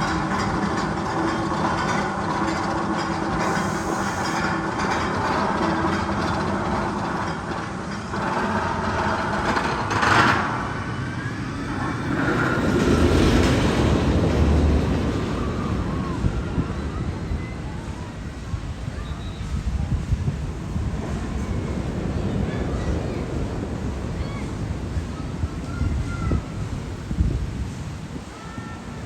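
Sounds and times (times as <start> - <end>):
train cars rumbling on rails: 0.0 - 29.0.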